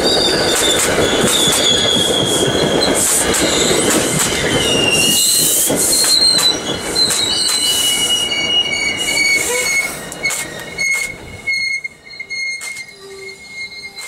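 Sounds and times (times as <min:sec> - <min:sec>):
wheels clicking over rail joints: 0:00.0 - 0:08.0, 0:09.3 - 0:14.0
steel wheels squealing: 0:00.0 - 0:14.0
train coaches rolling past: 0:00.0 - 0:14.0.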